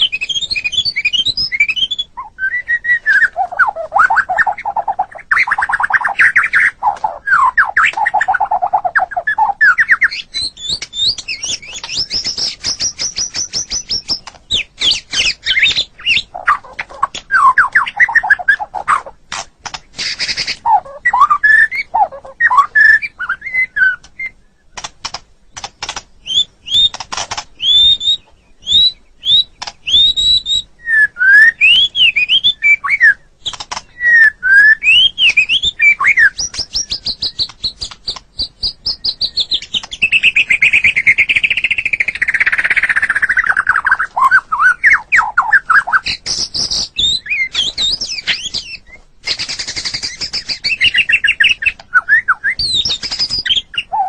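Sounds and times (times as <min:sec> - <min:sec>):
songbird singing whistled notes: 0:00.0 - 0:19.2, 0:19.9 - 0:54.0.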